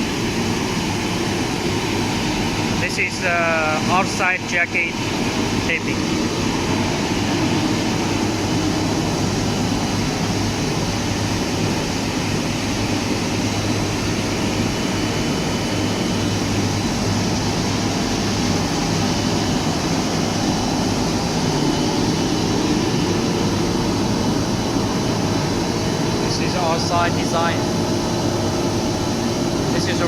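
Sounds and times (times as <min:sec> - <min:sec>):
machinery whirring and humming: 0:00.0 - 0:30.0.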